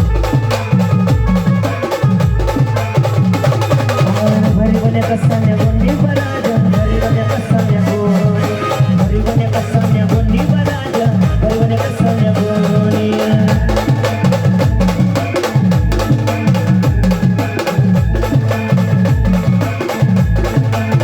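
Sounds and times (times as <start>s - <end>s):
deep bass drum beat: 0.0s - 21.0s
fast drum and percussion: 0.0s - 21.0s.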